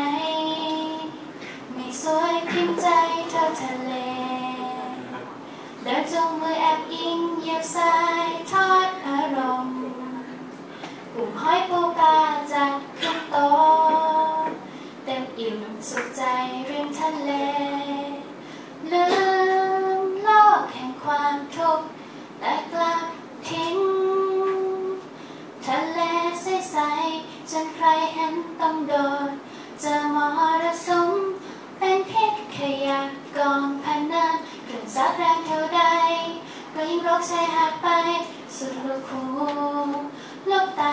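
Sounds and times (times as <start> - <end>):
woman singing into microphone: 0.0 - 10.5, 11.1 - 40.9.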